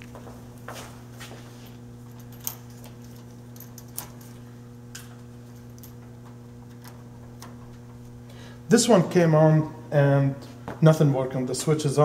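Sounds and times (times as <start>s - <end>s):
heater electrical hum: 0.0s - 12.0s.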